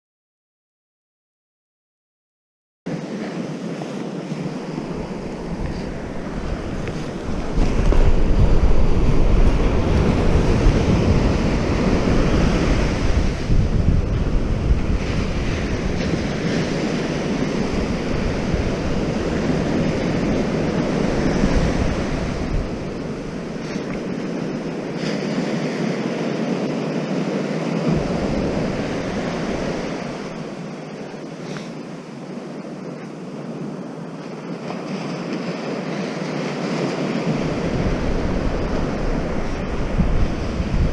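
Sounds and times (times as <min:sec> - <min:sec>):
waves breaking on beach: 0:02.9 - 0:40.9
wind buffeting microphone: 0:02.9 - 0:40.9.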